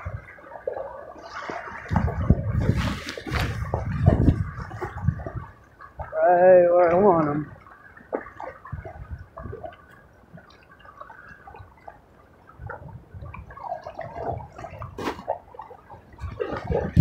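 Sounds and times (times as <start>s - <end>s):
waves lapping on rocks: 0.0s - 17.0s.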